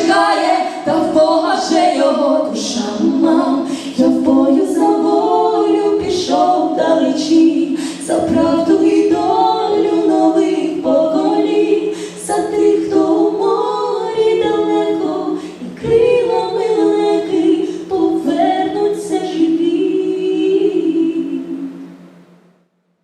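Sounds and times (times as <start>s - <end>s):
women singing in harmony: 0.0s - 22.1s.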